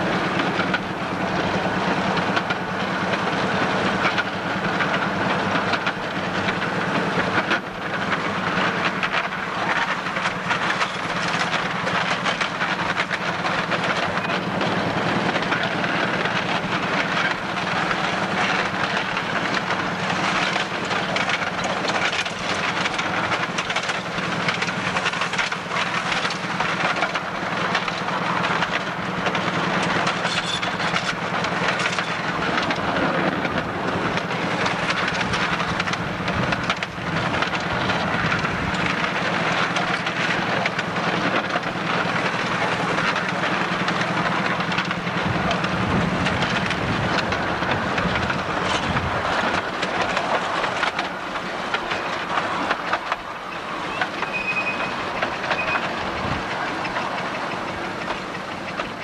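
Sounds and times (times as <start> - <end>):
miniature train low hum: 0.0 - 59.0
wheels clattering on rail joints: 0.0 - 59.0.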